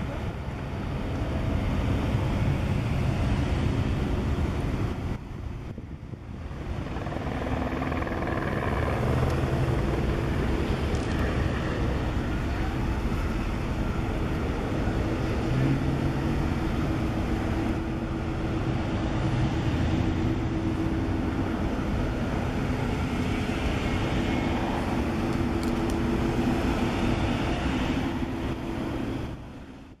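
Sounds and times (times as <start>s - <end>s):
cars driving past: 0.0s - 30.0s.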